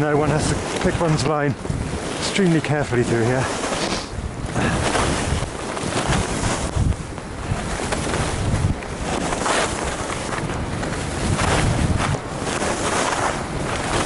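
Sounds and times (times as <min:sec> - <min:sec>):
skis scraping over snow: 0:00.0 - 0:14.0
wind buffeting microphone: 0:00.0 - 0:14.0.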